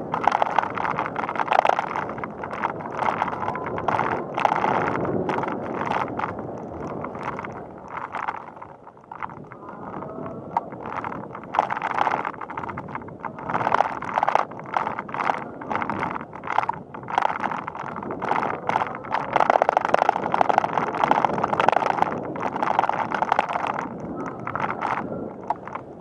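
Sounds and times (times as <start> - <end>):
bicycle rattling and ticking: 0.0 - 26.0
rapid bicycle clicks: 0.0 - 26.0.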